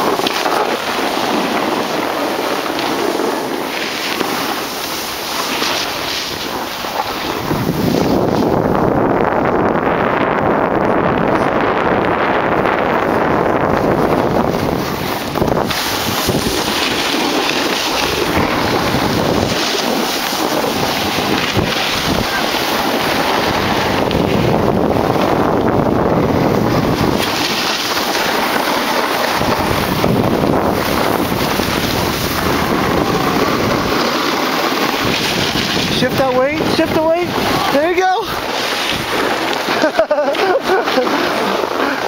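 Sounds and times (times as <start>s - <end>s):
snowboard sliding on snow: 0.0s - 42.0s
wind buffeting microphone: 0.0s - 42.0s.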